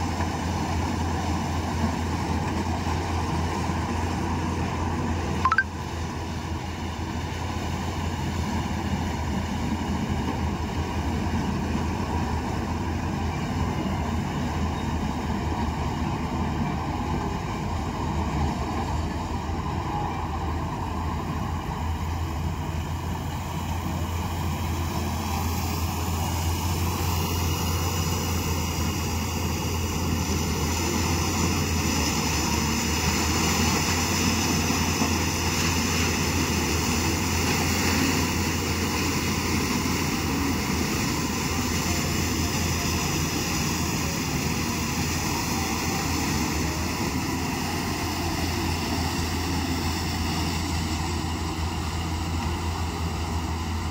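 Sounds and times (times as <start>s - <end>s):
harvester engine hum and whine: 0.0s - 53.9s.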